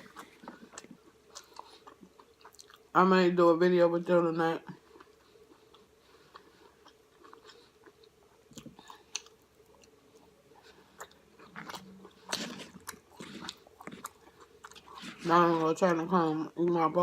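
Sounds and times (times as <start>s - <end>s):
close chewing and mouth sounds: 0.0s - 17.0s.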